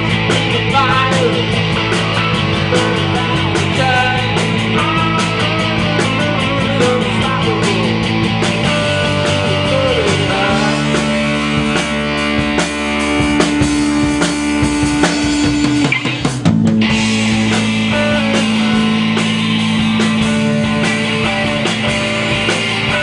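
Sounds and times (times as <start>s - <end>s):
drum kit beat: 0.0s - 23.0s
electric guitars and bass: 0.0s - 23.0s.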